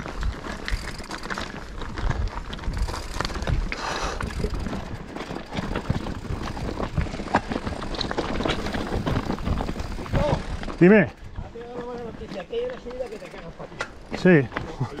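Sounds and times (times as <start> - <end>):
bike knocks and rattles: 0.0 - 15.0
bike tyres rolling on gravel: 0.0 - 15.0.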